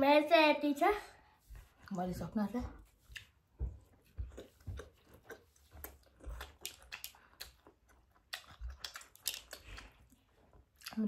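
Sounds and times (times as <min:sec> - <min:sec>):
people chewing with wet smacks: 0:01.4 - 0:11.0.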